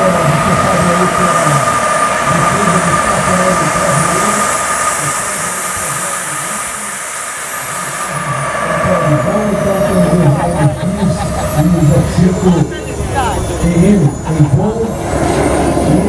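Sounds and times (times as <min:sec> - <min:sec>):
high turbine whistle: 0:00.0 - 0:16.0
jet turbine whine and rush: 0:00.0 - 0:16.0.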